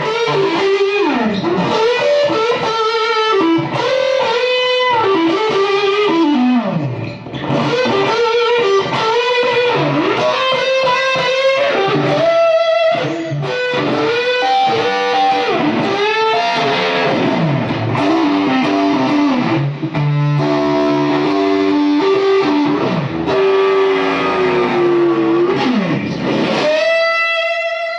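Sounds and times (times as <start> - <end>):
distorted electric guitar lead: 0.0 - 27.9.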